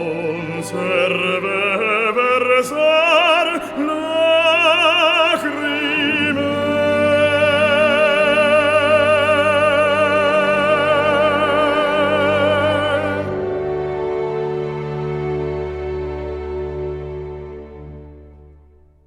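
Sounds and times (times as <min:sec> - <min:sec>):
operatic singing with vibrato: 0:00.0 - 0:15.6.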